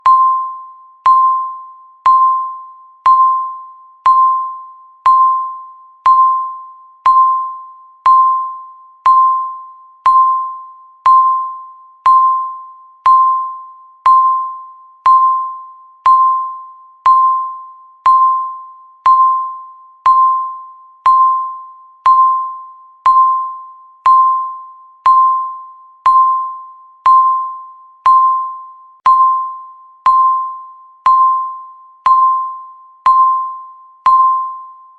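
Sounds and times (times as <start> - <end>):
countdown timer beeping: 0.0 - 34.9.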